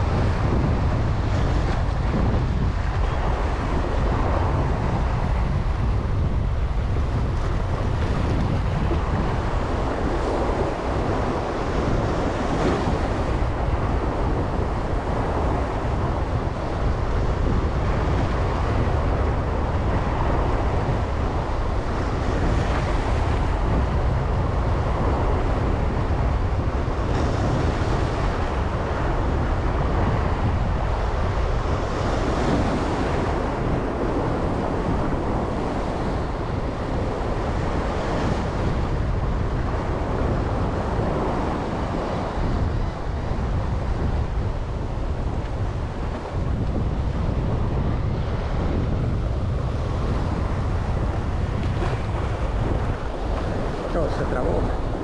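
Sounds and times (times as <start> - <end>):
surf washing: 0.0 - 55.0
wind buffeting microphone: 0.0 - 55.0.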